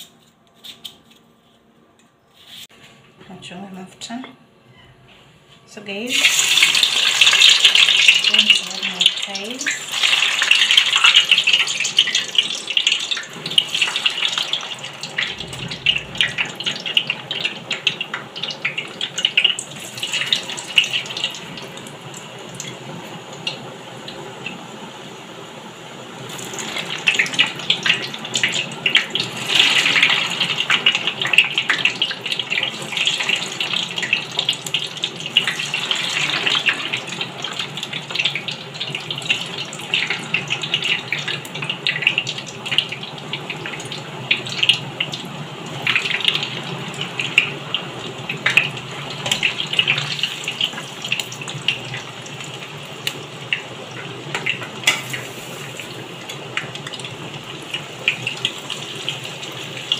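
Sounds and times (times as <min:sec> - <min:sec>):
fries sizzling in hot oil: 0:05.9 - 0:59.9.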